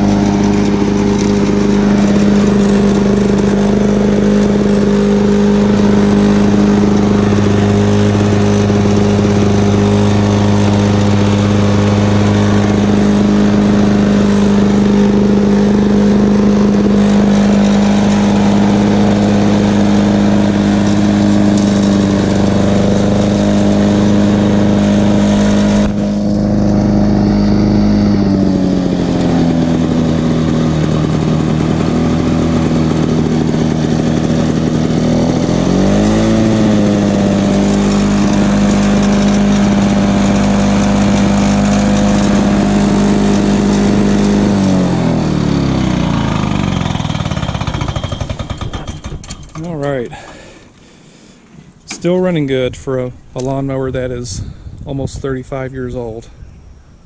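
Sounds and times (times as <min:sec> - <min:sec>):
lawn mower engine running: 0:00.0 - 0:56.1.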